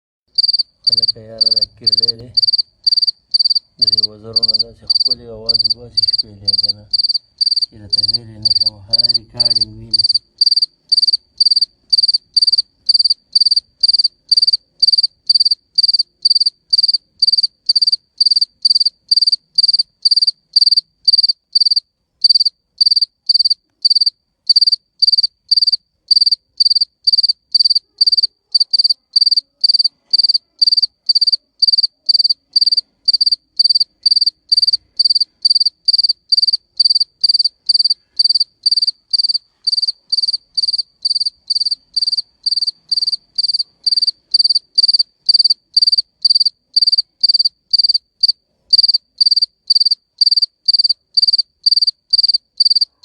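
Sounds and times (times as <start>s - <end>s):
cricket chirping: 0.3s - 53.0s.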